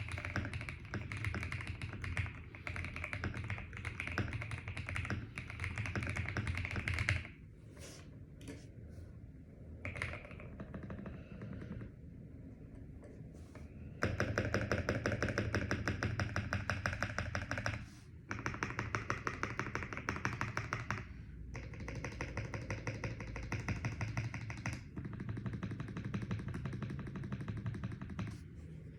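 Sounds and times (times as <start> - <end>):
fast mechanical keyboard typing: 0.0 - 7.4, 9.8 - 11.9, 14.0 - 28.4.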